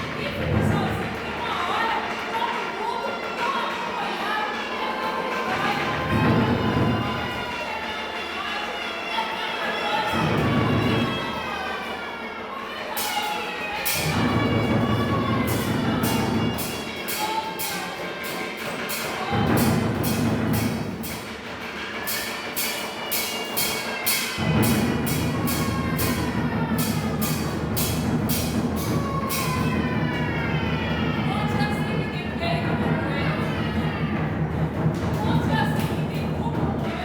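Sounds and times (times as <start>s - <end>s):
sharp percussion strikes: 0.0s - 8.8s, 9.7s - 11.8s, 12.7s - 37.0s.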